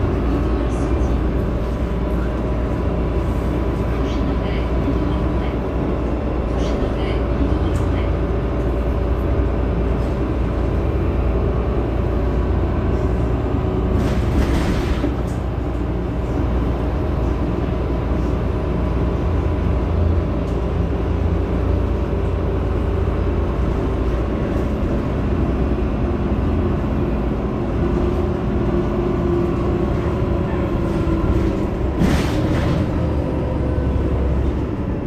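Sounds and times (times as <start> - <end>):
bus engine idling: 0.0 - 35.0.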